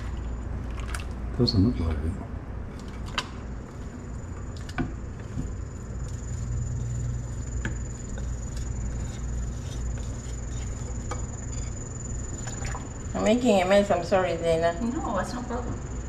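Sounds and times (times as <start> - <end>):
low hum with high whine: 0.0 - 16.0.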